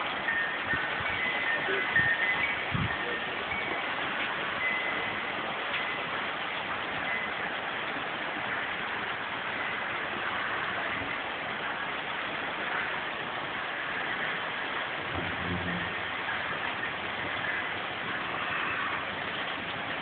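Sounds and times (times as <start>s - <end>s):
hail falling: 0.0s - 20.0s.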